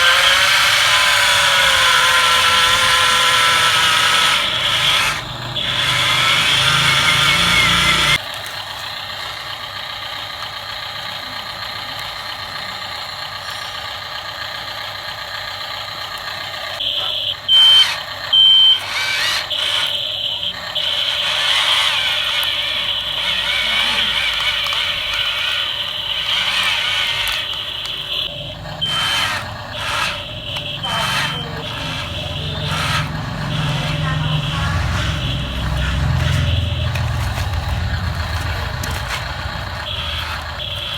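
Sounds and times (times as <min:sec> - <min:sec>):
toy electric motors whirring: 0:00.0 - 0:40.9.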